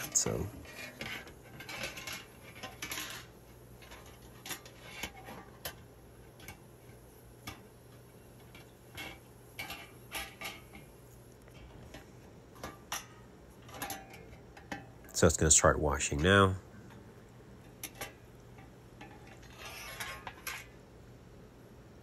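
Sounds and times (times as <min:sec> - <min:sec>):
dishwasher low hum: 0:00.0 - 0:22.0.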